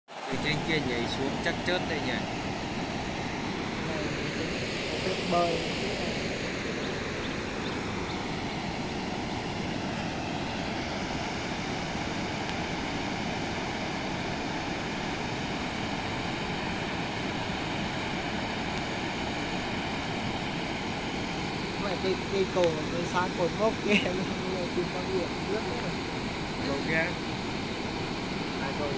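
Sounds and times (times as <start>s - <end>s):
waterfall roaring: 0.1s - 28.9s.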